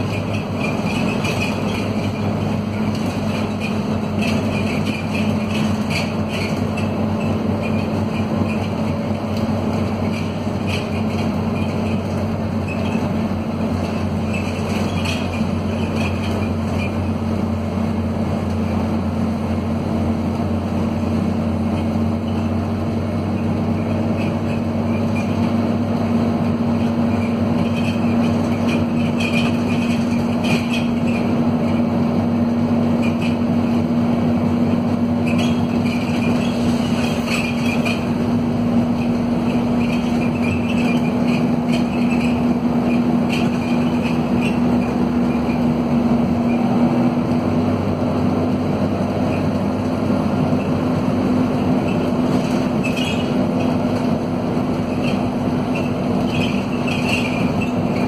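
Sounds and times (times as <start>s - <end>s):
bus bodywork rattling: 0.0s - 58.0s
bus diesel engine pulling: 0.0s - 58.0s.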